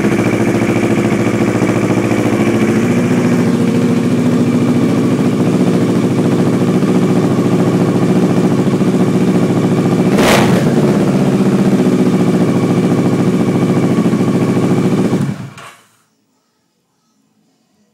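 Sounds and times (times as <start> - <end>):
motorcycle engine idling: 0.0 - 15.7.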